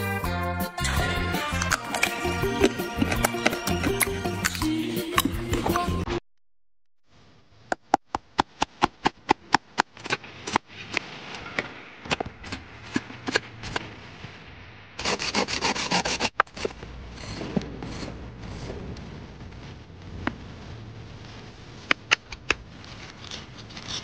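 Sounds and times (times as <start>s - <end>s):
rubbing or scraping noise: 0.0s - 6.2s, 10.0s - 14.4s, 15.0s - 24.0s.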